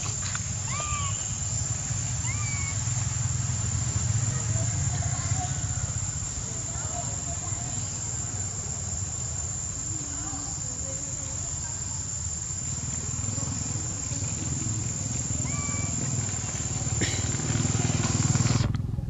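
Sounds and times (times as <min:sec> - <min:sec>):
insects shrilling: 0:00.0 - 0:18.6.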